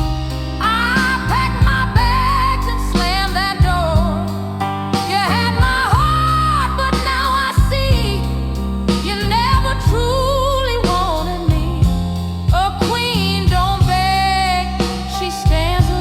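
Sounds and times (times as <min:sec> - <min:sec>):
instrumental backing: 0:00.0 - 0:16.0
person singing with vibrato: 0:00.0 - 0:16.0.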